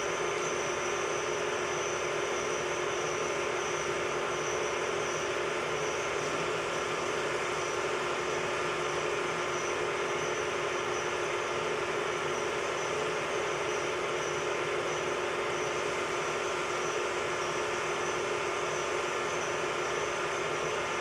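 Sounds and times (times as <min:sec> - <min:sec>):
metal lathe running: 0:00.0 - 0:21.0.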